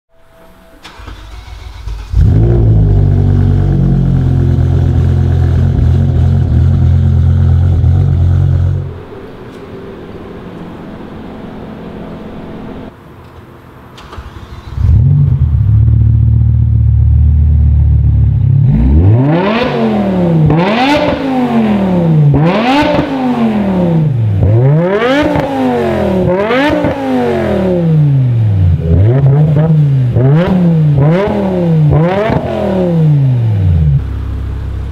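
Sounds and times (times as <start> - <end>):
car engine revving: 0.8 - 13.0, 14.0 - 34.9.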